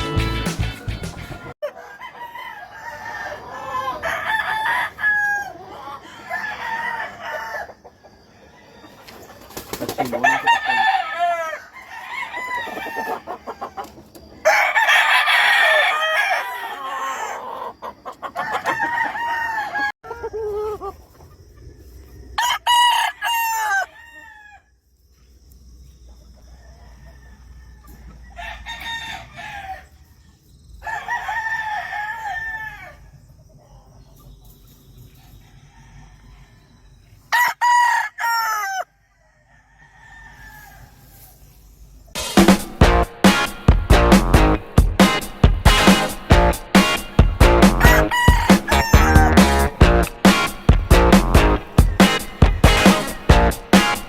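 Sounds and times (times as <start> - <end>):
roosters crowing: 0.0 - 24.8, 26.3 - 30.2, 30.8 - 33.3, 35.2 - 41.4, 42.2 - 54.0.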